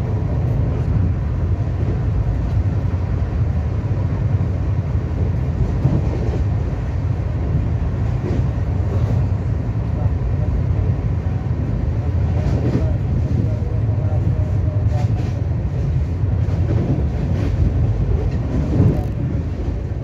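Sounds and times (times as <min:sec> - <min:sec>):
train wheels on track: 0:00.0 - 0:20.0.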